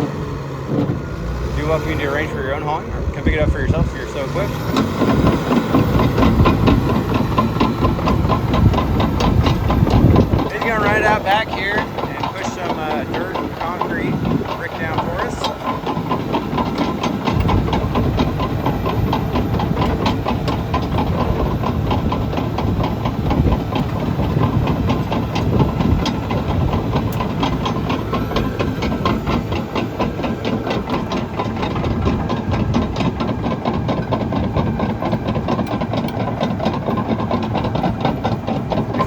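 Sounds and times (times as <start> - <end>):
bulldozer diesel engine running: 0.0 - 39.0
fast even clatter: 0.7 - 39.0.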